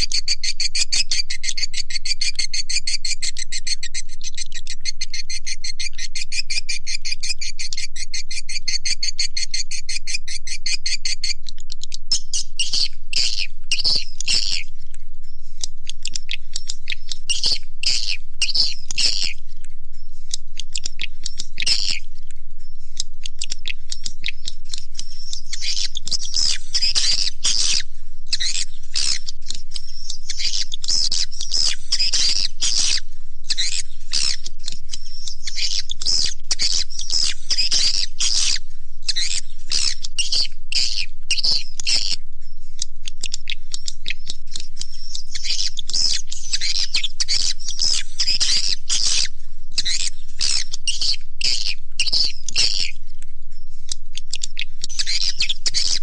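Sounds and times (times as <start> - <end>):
swiftlets twittering and chirping: 0.0 - 56.0.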